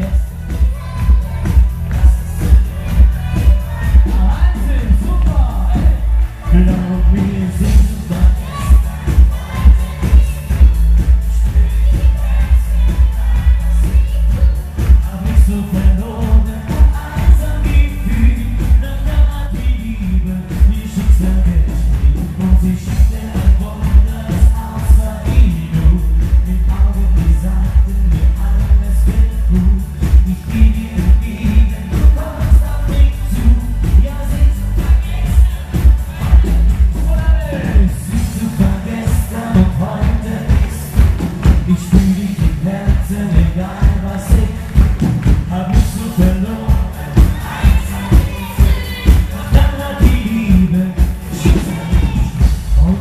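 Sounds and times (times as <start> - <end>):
drums: 0.0 - 53.0
electric bass: 0.0 - 53.0
man singing into microphone: 0.0 - 53.0
pop backing music heavy beat: 0.0 - 53.0.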